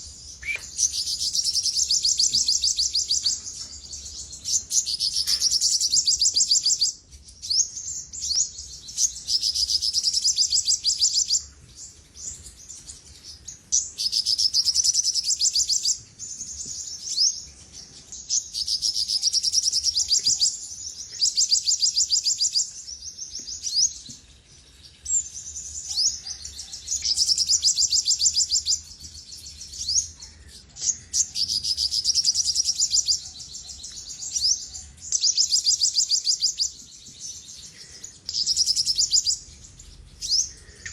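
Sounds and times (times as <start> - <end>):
bird singing rapid high trills: 0.0 - 40.9.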